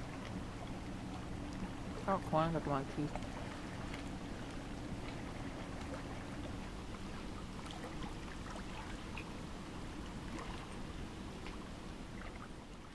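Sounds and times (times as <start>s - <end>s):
small splashes and drips: 0.0s - 9.4s, 10.0s - 12.9s.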